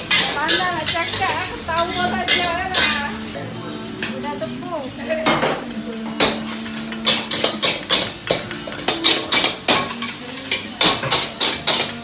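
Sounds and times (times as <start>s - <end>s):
metal spatula clanking on wok: 0.0s - 3.2s, 5.2s - 12.0s.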